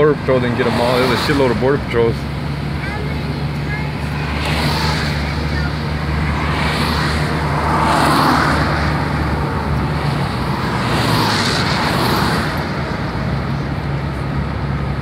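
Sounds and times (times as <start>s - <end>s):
car engine and tyre hum: 0.0s - 15.0s
rushing road noise: 0.0s - 15.0s.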